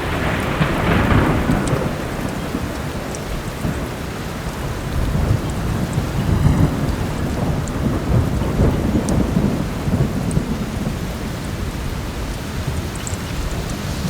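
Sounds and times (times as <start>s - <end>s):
heavy rain: 0.0s - 14.0s
thunder rumbling: 0.0s - 14.0s.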